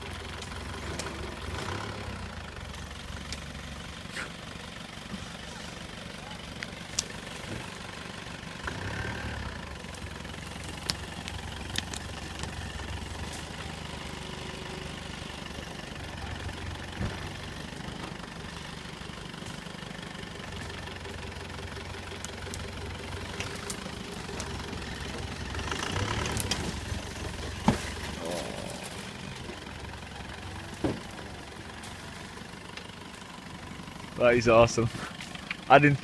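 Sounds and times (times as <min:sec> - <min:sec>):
vehicle engine running at low revs: 0:00.0 - 0:36.0.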